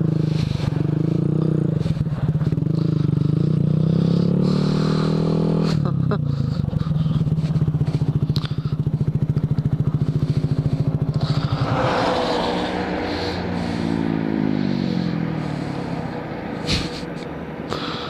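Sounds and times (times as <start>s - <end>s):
motorcycle engine idling: 0.0s - 18.0s
passing traffic: 0.0s - 18.0s.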